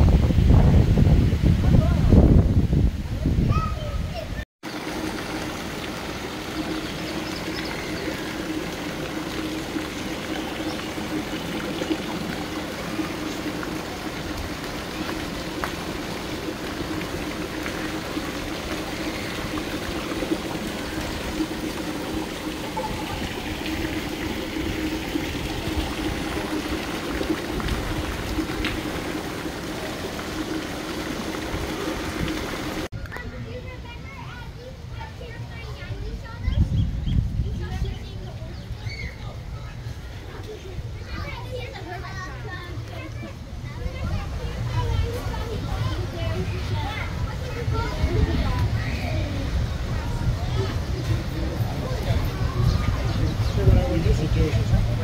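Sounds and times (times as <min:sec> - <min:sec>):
fountain water splashing into pool: 0:03.1 - 0:36.4, 0:37.5 - 0:55.0.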